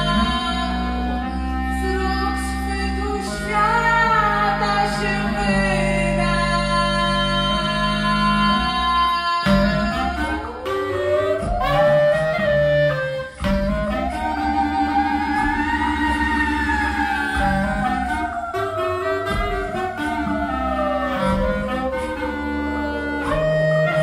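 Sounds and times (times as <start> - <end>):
woman singing wordlessly: 0.0 - 23.0
clarinet: 0.0 - 24.0
low electronic drone: 0.0 - 24.0.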